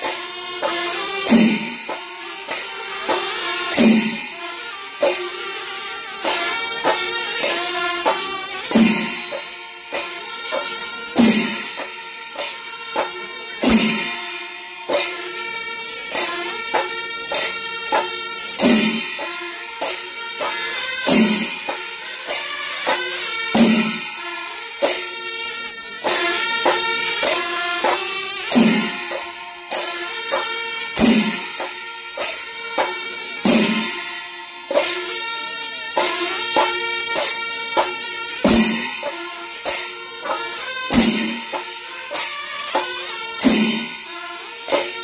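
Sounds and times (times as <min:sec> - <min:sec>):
massed drums: 0:00.0 - 0:35.1, 0:36.1 - 0:45.0
hand cymbals: 0:00.0 - 0:45.0.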